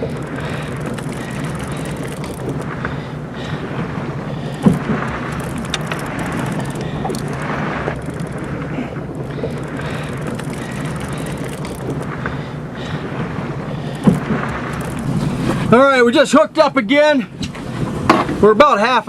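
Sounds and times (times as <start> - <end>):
wind noise: 0.0 - 16.0
boat engine running: 0.0 - 19.0
water noise: 0.0 - 19.0.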